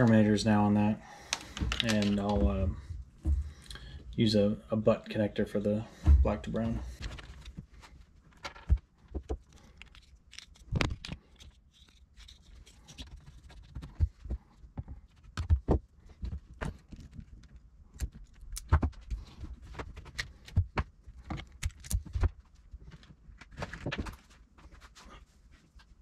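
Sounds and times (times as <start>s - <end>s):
wires clicking and rustling: 1.2s - 3.8s, 6.5s - 25.0s.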